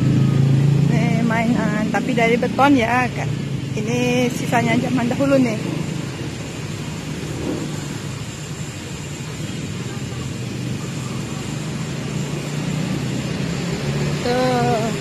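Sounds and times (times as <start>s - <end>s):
city road traffic hum: 0.0s - 15.0s.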